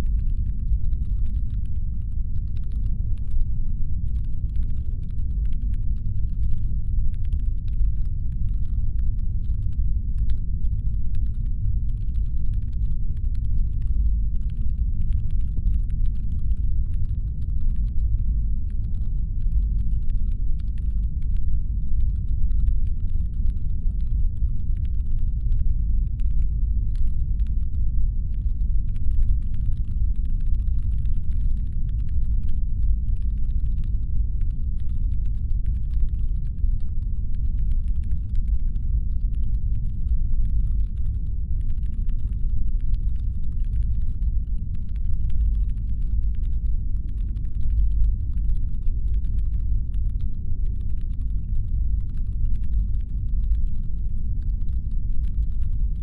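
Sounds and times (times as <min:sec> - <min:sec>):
faint irregular clicks: 0:00.0 - 0:56.0.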